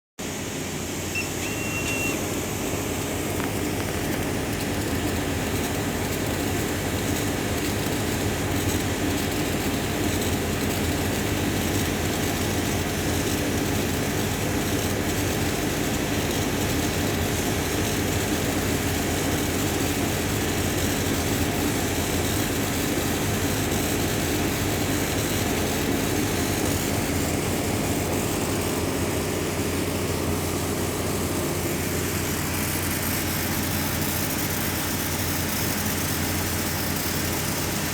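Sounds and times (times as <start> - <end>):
laser engraver mechanical hum: 0.2 - 37.9.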